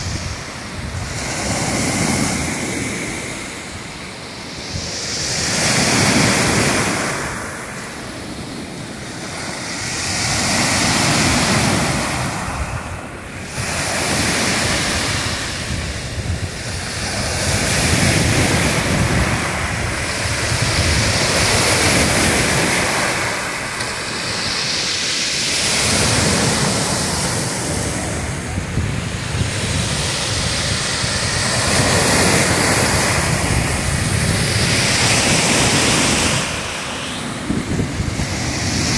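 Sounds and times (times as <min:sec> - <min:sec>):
waves breaking on pebble beach: 0:00.0 - 0:38.9.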